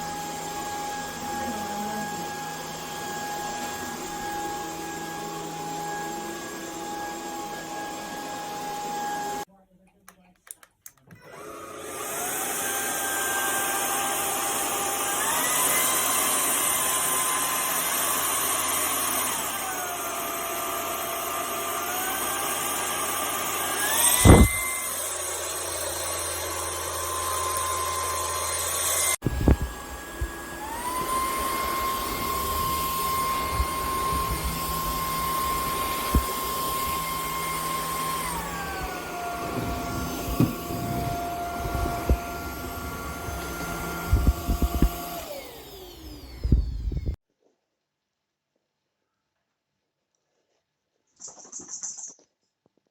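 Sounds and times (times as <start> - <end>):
vacuum cleaner motor whine: 0.0 - 9.5, 11.2 - 47.2.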